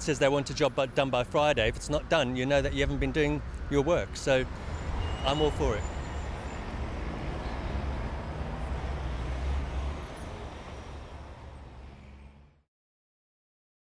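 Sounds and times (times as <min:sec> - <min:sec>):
city street traffic rumble: 0:00.0 - 0:12.6.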